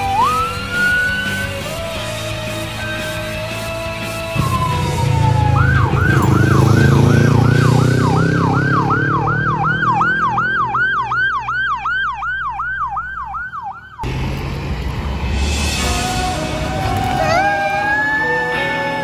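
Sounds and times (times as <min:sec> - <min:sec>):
police siren yelping: 0:00.0 - 0:14.1, 0:16.0 - 0:19.0
motorcycle engine humming: 0:00.0 - 0:19.0.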